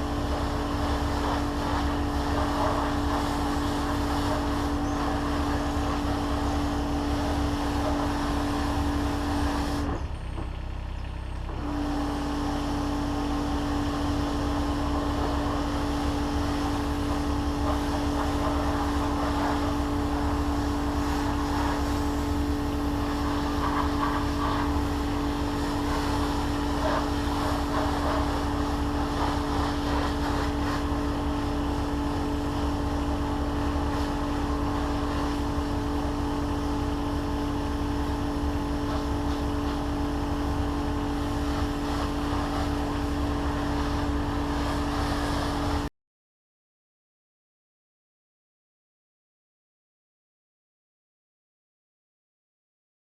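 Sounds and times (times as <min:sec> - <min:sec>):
machinery humming and rumbling: 0:00.0 - 0:45.9.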